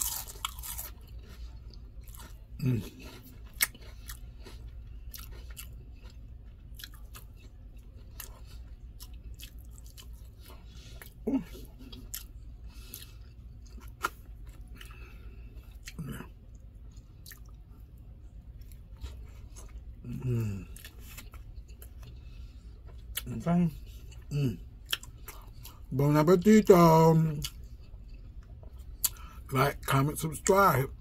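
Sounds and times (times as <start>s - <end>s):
person chewing food: 0.0s - 30.0s
steady low hum: 0.0s - 31.0s.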